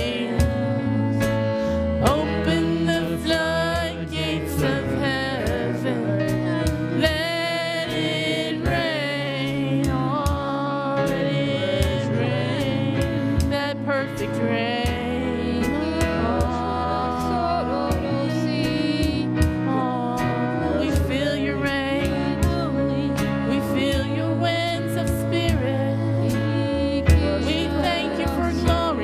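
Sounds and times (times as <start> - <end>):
gospel band playing: 0.0 - 29.0
person singing: 0.0 - 29.0.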